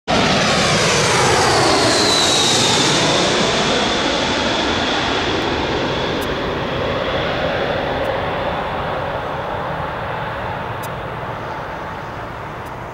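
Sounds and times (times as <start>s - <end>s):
jet engine roar and whine: 0.1s - 12.9s.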